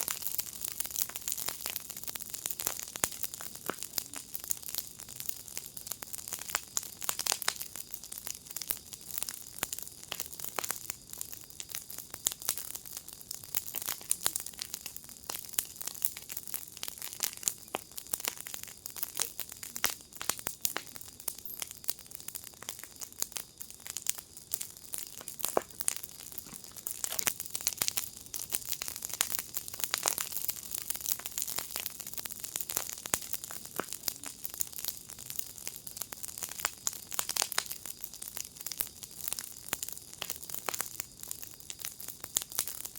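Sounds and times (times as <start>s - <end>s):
fire crackling: 0.0s - 42.9s.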